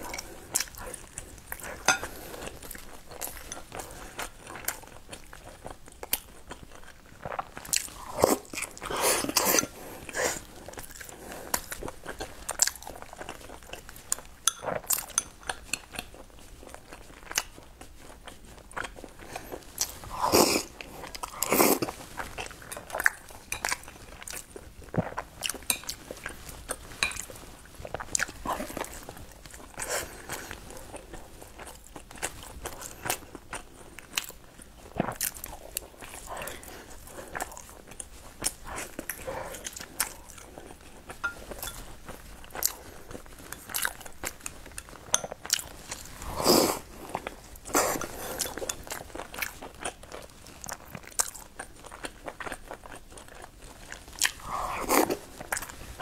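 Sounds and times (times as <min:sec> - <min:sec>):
close chewing with mouth clicks: 0:00.0 - 0:56.0.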